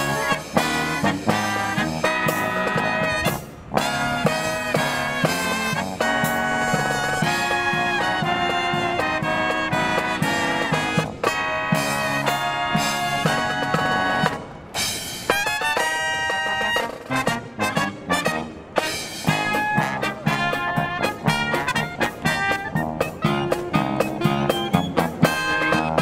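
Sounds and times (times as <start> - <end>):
brass band playing swing tune: 0.0 - 26.0.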